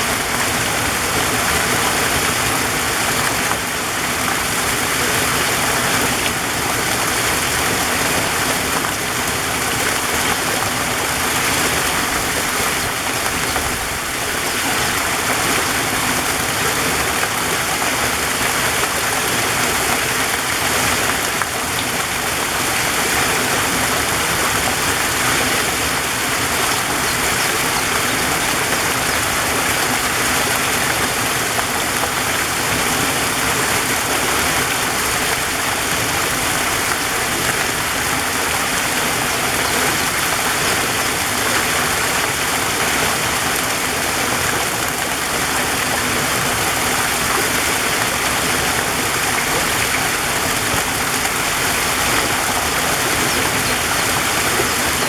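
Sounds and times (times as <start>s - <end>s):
waterfall rushing and splashing: 0.0s - 55.0s.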